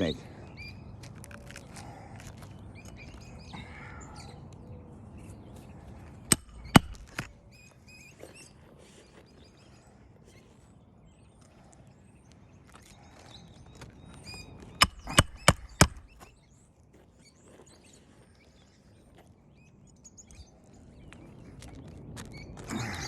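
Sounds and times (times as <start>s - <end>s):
faint shingle rustling: 0.0s - 22.7s.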